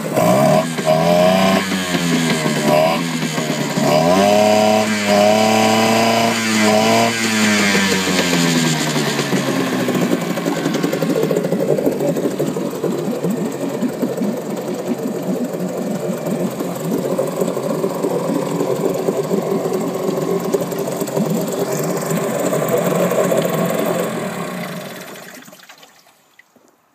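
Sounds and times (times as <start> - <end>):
outboard motor idling: 0.0 - 26.1.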